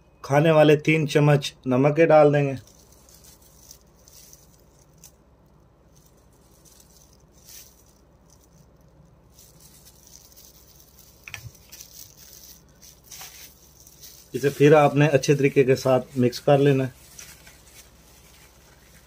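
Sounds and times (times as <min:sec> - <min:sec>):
soft handling sounds: 0:02.5 - 0:19.0.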